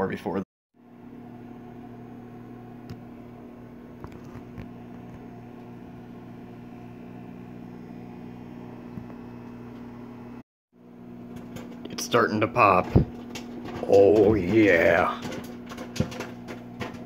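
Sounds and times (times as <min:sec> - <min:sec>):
microwave oven humming: 0:00.8 - 0:17.0.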